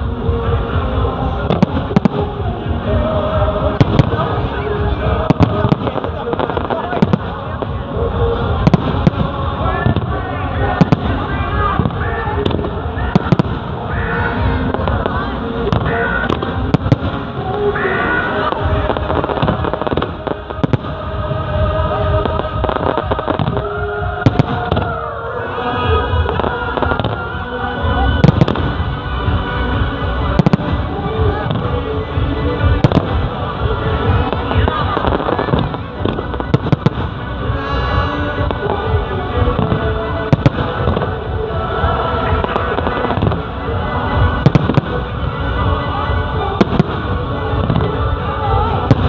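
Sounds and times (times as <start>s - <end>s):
crackle of small fireworks: 0.0s - 17.8s, 18.4s - 25.1s, 30.3s - 45.6s
music playing: 0.0s - 49.0s.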